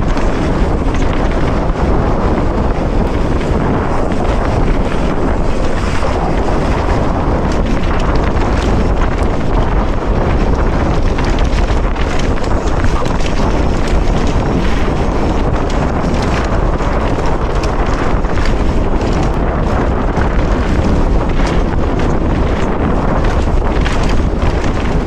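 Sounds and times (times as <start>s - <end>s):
bike clicks and rattles: 0.0s - 25.0s
tyres rumbling on dirt trail: 0.0s - 25.0s
wind buffeting microphone: 0.0s - 25.0s.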